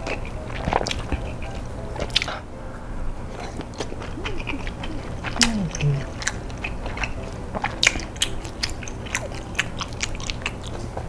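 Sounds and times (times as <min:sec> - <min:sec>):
close chewing of soft crackers: 0:00.0 - 0:02.5, 0:03.3 - 0:11.0.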